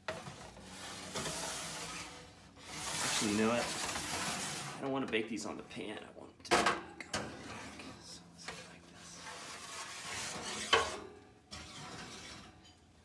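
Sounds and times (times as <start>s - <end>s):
metal pans scraping on oven rack: 0.0s - 5.0s, 6.5s - 13.0s.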